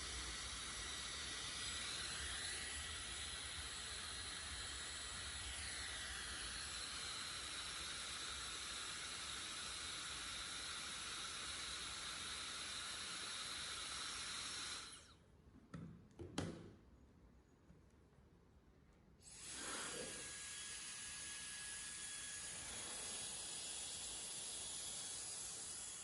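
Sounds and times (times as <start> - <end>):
hair dryer blowing: 0.0 - 15.2, 19.3 - 26.0.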